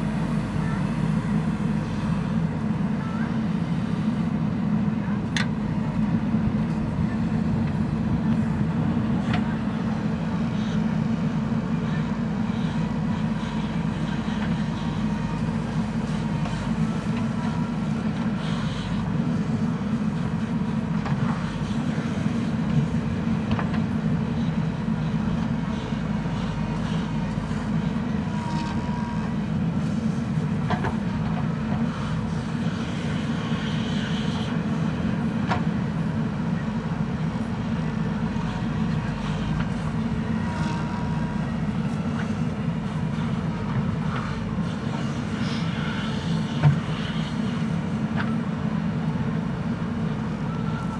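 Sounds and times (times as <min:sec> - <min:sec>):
diesel engine running under load: 0:00.0 - 0:50.9.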